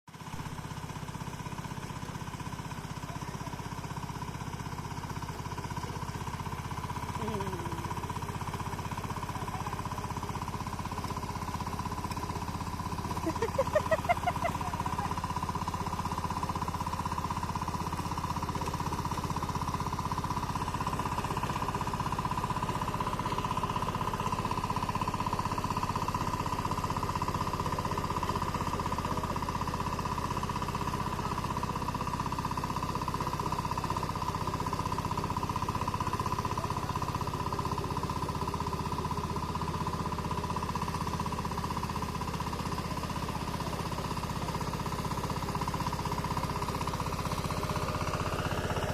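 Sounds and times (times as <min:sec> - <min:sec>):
tractor engine chugging: 0:00.1 - 0:48.9.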